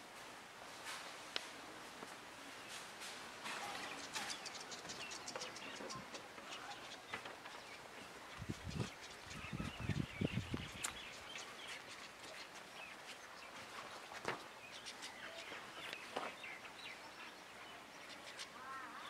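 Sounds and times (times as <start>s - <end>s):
outdoor background hiss: 0.0s - 19.0s
birds chirping: 3.4s - 19.0s.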